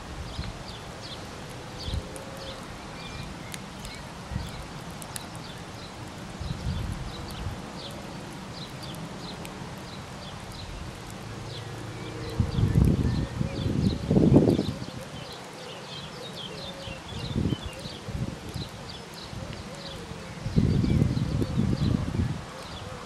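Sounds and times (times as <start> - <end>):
wind rumble on microphone: 0.0 - 15.4, 16.9 - 23.0.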